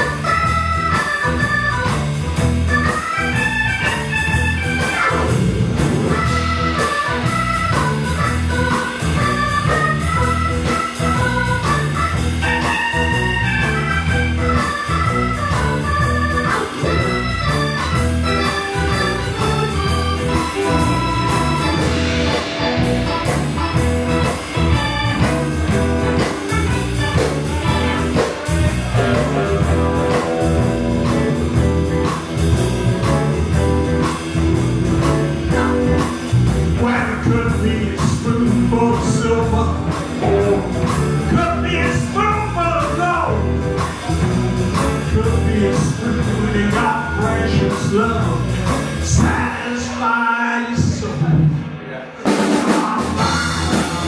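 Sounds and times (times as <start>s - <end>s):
bass guitar: 0.0s - 54.0s
drums: 0.0s - 54.0s
electric guitars: 0.0s - 54.0s
organ chords: 0.0s - 54.0s.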